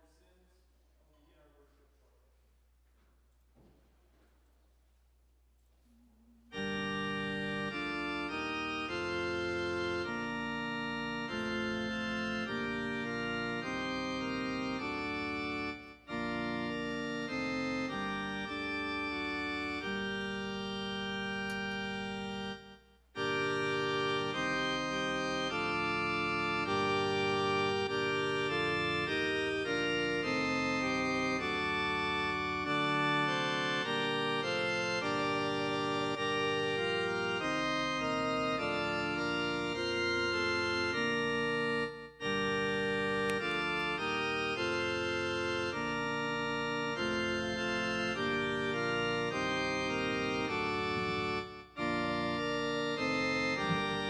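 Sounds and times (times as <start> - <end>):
organ playing chords: 6.2 - 54.0.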